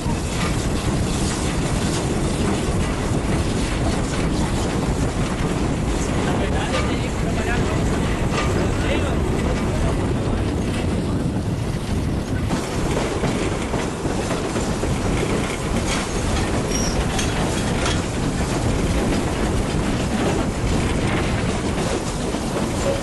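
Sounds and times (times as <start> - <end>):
rail joint clicks: 0.0 - 23.0
train wheels rumbling on rails: 0.0 - 23.0.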